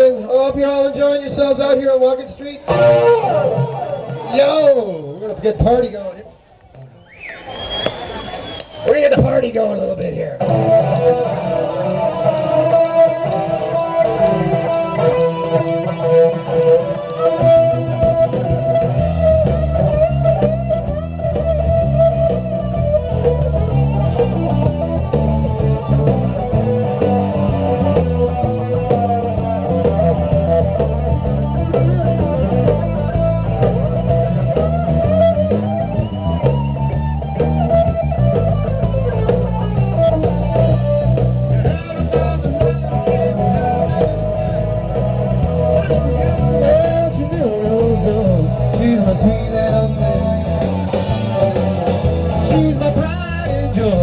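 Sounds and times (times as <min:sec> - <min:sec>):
electric guitar melody: 0:00.0 - 0:54.0
low bass part: 0:10.3 - 0:54.0.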